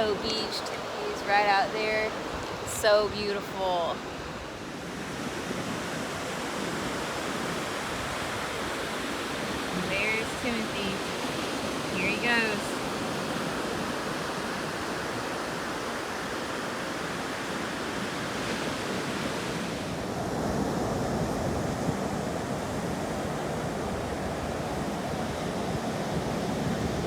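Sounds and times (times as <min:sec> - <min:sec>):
ocean surf washing in: 0:00.0 - 0:27.0
wind on microphone: 0:00.0 - 0:27.0.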